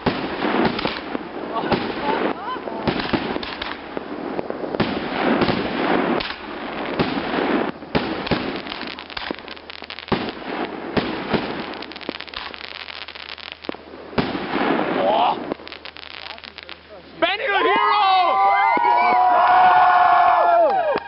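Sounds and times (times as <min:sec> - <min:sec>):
fireworks bangs and pops: 0:00.0 - 0:17.3
fireworks crackling: 0:00.0 - 0:21.0.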